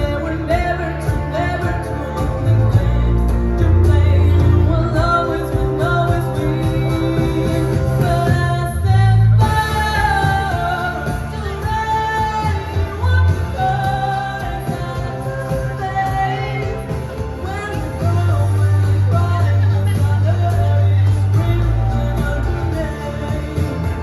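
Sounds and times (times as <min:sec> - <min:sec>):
backing track with heavy bass: 0:00.0 - 0:24.0
woman singing a pop ballad: 0:00.0 - 0:24.0.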